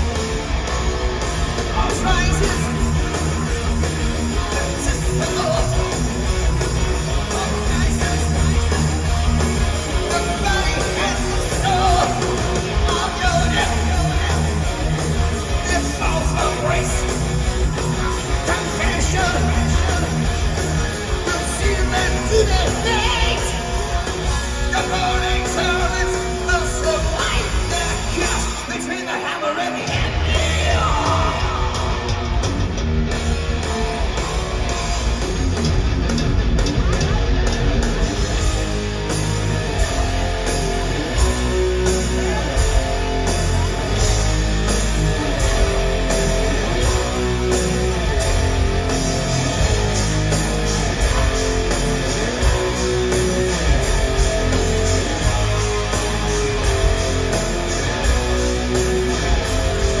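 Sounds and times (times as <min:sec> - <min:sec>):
heavy metal band playing: 0:00.0 - 1:00.0.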